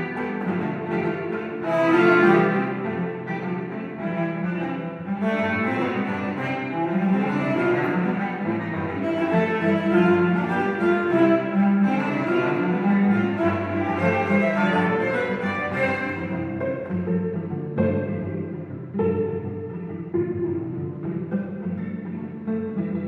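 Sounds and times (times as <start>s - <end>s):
cellos playing: 0.0s - 23.0s.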